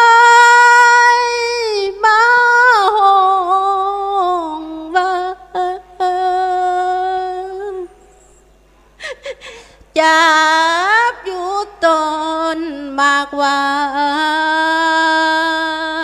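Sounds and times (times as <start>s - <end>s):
woman singing devotional chant: 0.0s - 8.2s, 9.1s - 16.0s.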